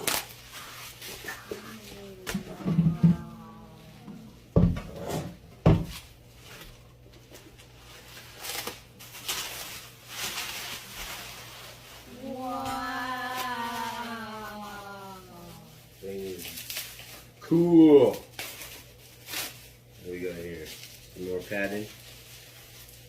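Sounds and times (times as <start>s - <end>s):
rustling of packing material: 0.0s - 4.5s, 5.8s - 23.0s.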